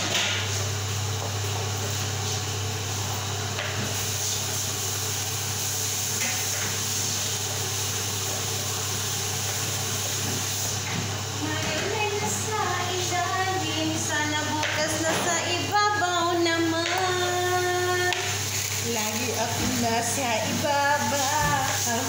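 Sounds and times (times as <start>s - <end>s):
range hood fan humming: 0.0s - 22.0s.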